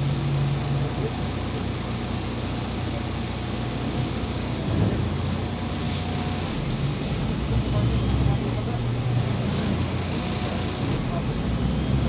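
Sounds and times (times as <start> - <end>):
bus diesel engine drone: 0.0 - 12.0
road noise: 0.0 - 12.0.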